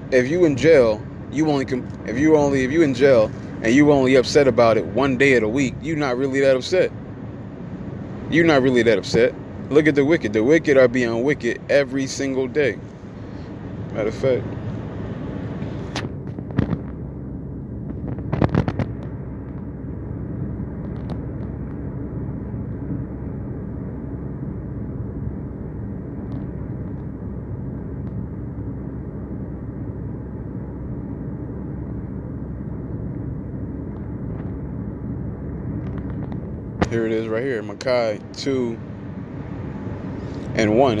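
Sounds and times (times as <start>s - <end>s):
low background rumble: 0.0s - 41.0s.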